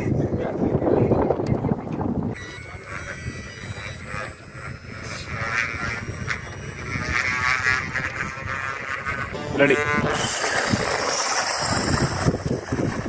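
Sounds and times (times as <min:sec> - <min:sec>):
wind on microphone: 0:00.0 - 0:13.0
toy motorbike motor whining: 0:02.3 - 0:13.0.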